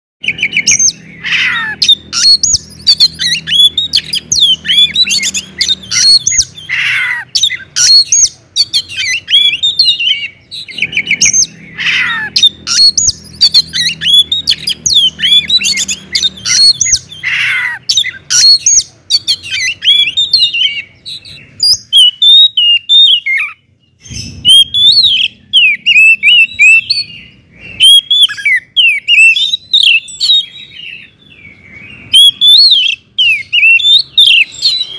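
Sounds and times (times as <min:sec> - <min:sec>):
bird downward-sweeping call: 0:00.2 - 0:34.9
bird singing whistles and chirps: 0:00.2 - 0:34.9.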